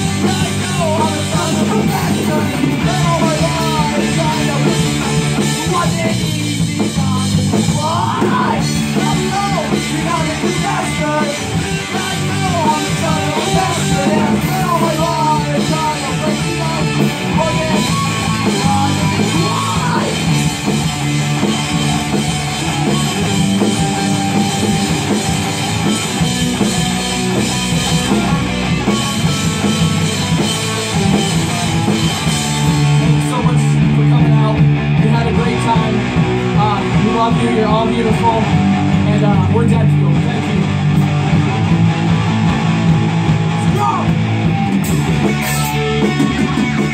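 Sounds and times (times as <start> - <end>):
electric guitar lead with bends: 0.0 - 46.9
rock band playing: 0.0 - 46.9.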